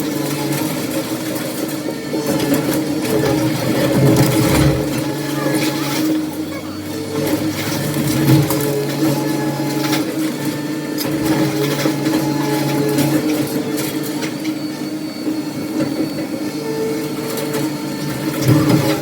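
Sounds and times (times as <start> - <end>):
diesel engine running: 0.0 - 16.4, 17.0 - 19.0.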